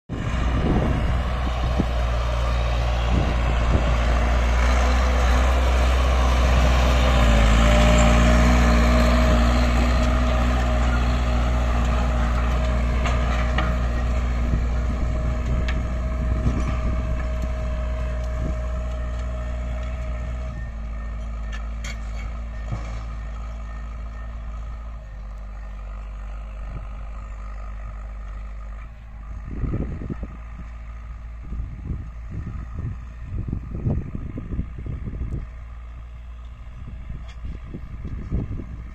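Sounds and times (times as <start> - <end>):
tractor diesel engine running: 0.1 - 38.9.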